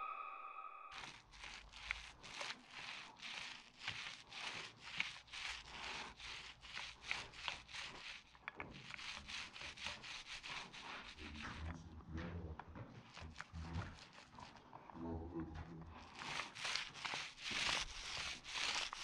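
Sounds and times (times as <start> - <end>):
paint roller rubbing on concrete: 0.9 - 12.1, 12.8 - 19.0.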